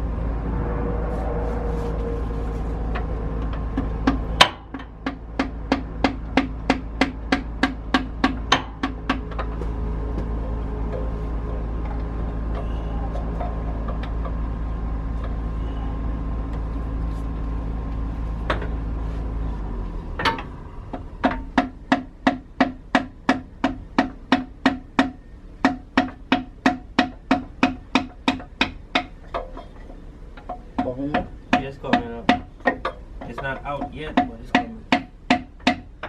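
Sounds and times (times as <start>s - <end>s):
machine hum: 0.0s - 34.3s.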